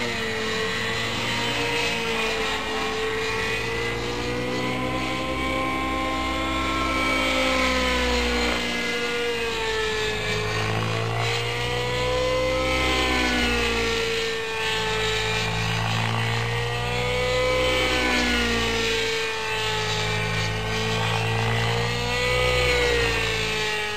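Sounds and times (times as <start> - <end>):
model helicopter engine and rotor: 0.0 - 23.9.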